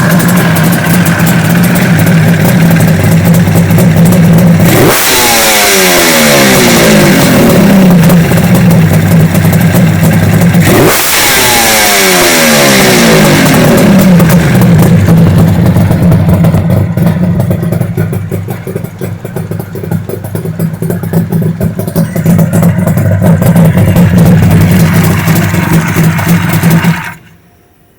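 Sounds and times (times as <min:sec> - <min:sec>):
motorcycle engine revving: 0:00.0 - 0:27.3.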